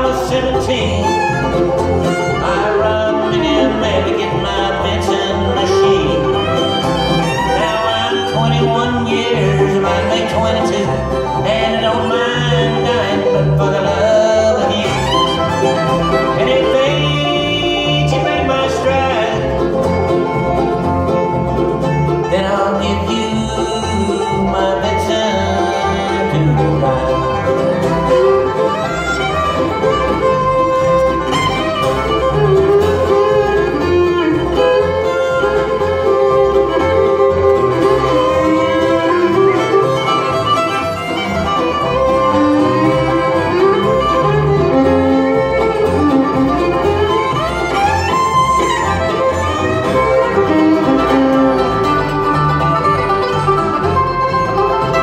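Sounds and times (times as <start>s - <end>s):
acoustic guitar: 0.0s - 55.0s
banjo: 0.0s - 55.0s
fiddle: 0.0s - 55.0s
mandolin: 0.0s - 55.0s
upright bass: 0.0s - 55.0s.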